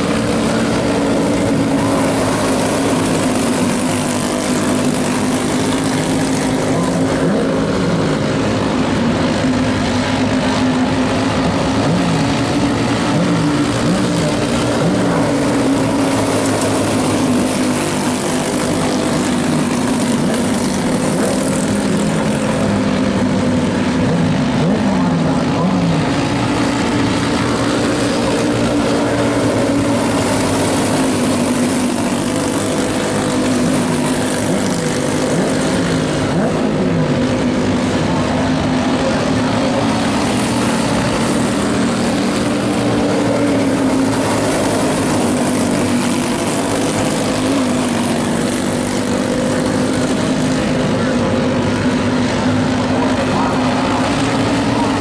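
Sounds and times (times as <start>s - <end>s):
sprint car engines revving: 0.0s - 55.0s.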